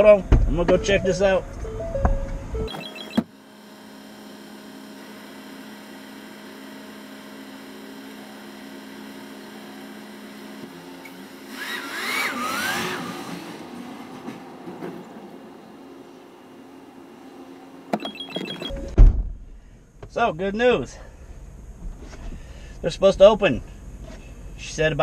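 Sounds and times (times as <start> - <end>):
low mechanical van hum: 0.0 - 11.8, 12.8 - 25.0.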